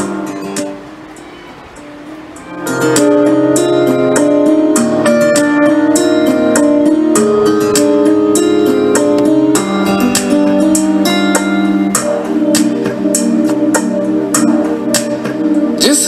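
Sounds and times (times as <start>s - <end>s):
music with plucked guitar: 0.0s - 16.0s.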